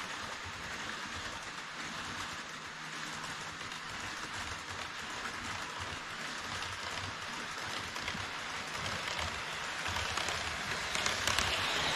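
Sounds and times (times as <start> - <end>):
model train rolling hiss: 0.0 - 11.9.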